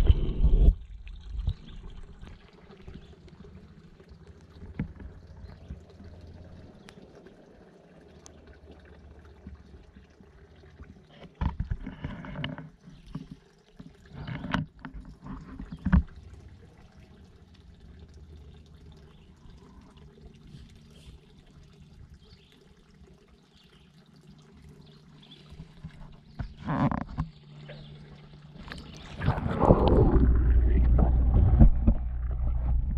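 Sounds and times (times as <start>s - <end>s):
pond water splashing and trickling: 0.0s - 32.9s.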